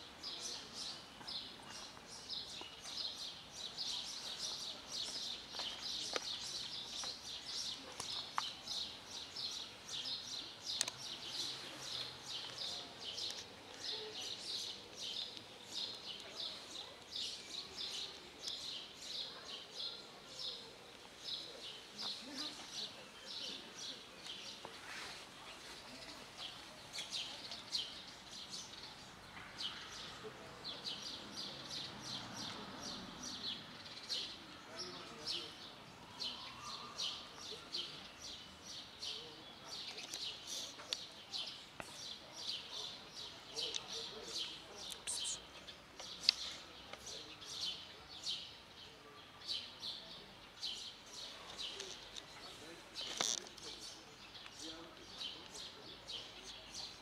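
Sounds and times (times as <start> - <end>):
birds chirping: 0.2 - 57.0.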